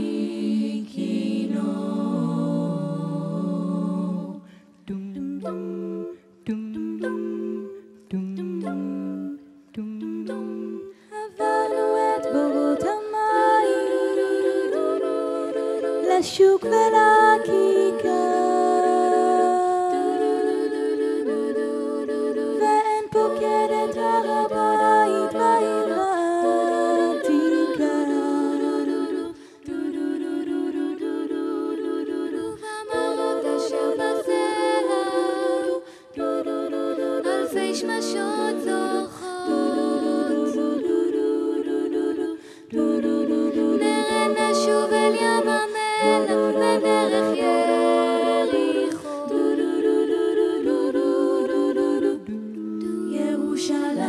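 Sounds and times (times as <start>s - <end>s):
women singing in close harmony: 0.0s - 54.0s.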